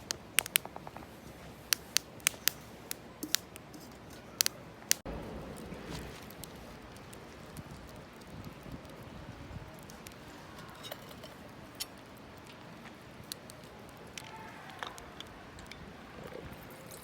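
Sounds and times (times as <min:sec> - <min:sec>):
sharp pops from fire: 0:00.0 - 0:15.8
wood fire crackling: 0:00.0 - 0:17.0.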